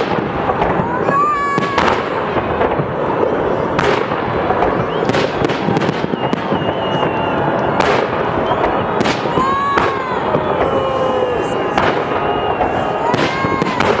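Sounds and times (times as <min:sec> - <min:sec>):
fireworks crackling and popping: 0:00.0 - 0:14.0
loud firework bangs: 0:00.0 - 0:14.0.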